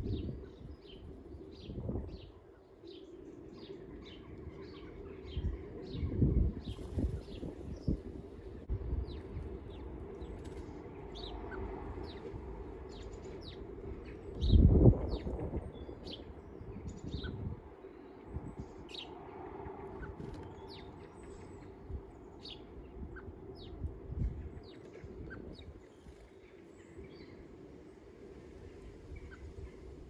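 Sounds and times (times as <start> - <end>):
small birds chirping: 0.0 - 30.0
steady low rumble: 0.0 - 30.0.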